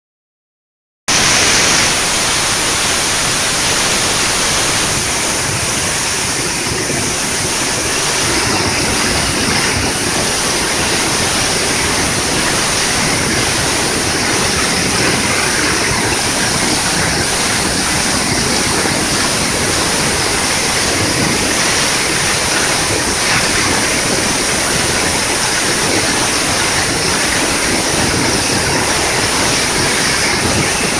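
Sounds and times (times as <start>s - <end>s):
waterfall rushing: 1.1s - 30.9s.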